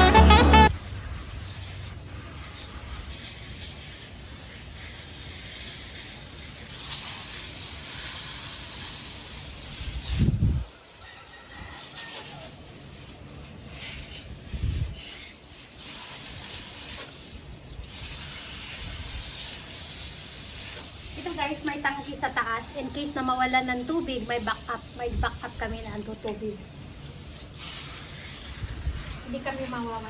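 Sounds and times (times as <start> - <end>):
water spraying onto plants: 0.7 - 30.0.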